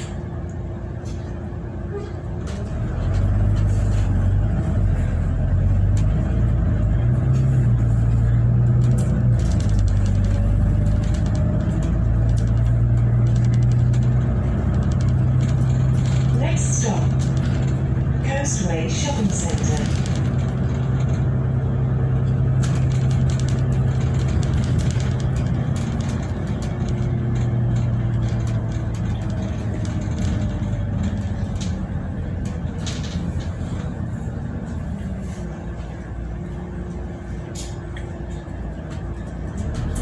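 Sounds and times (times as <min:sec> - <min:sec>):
bus engine droning: 0:00.0 - 0:40.0
rattles and clicks: 0:00.0 - 0:40.0.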